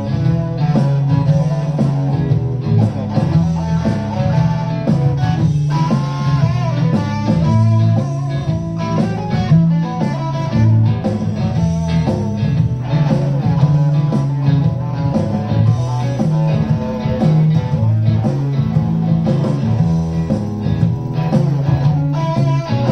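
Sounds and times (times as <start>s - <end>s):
electric guitar playing: 0.0s - 22.9s.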